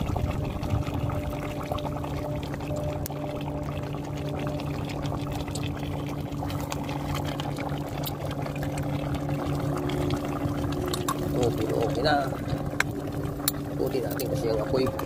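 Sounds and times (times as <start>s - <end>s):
low hum: 0.0s - 15.0s
pot boiling and bubbling: 0.0s - 15.0s.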